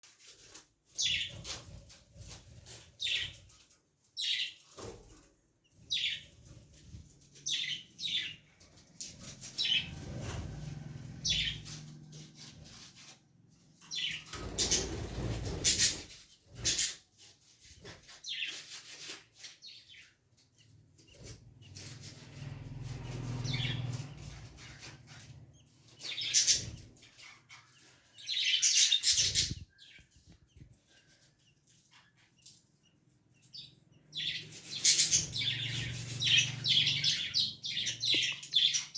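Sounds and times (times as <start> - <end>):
rustling noise: 6.0 - 33.6, 34.2 - 38.9.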